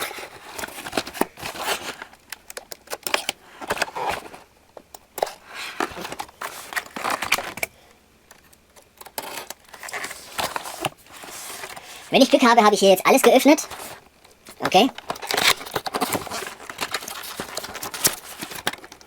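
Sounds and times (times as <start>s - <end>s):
packaging crinkling and tearing: 0.0s - 4.5s, 5.1s - 7.7s, 8.3s - 12.5s, 13.6s - 19.0s.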